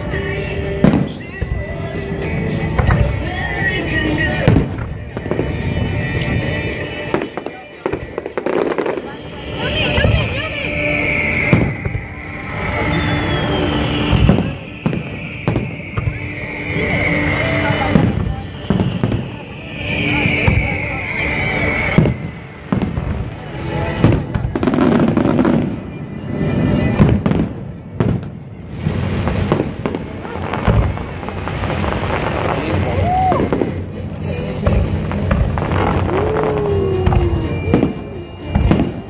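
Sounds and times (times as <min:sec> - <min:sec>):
background music: 0:00.0 - 0:39.0
fireworks bangs: 0:00.0 - 0:39.0.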